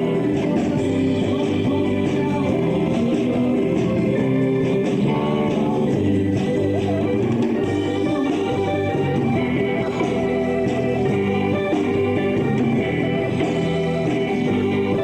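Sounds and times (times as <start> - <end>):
bass guitar: 0.0 - 15.0
drums: 0.0 - 15.0
guitars: 0.0 - 15.0
live band playing blues-rock: 0.0 - 15.0.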